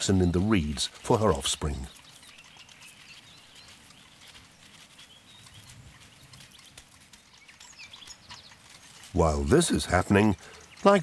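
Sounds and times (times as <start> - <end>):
soft ticks and clicks: 0.0 - 11.0
faint high bird chirps: 0.7 - 11.0.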